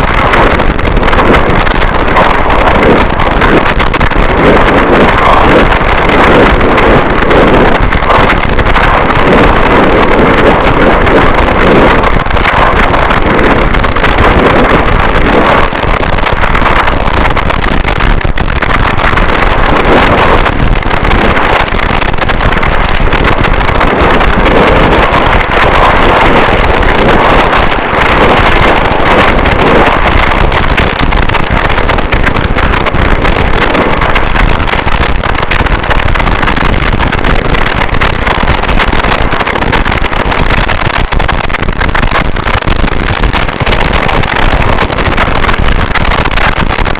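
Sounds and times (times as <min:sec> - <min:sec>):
distorted static noise: 0:00.0 - 0:46.9.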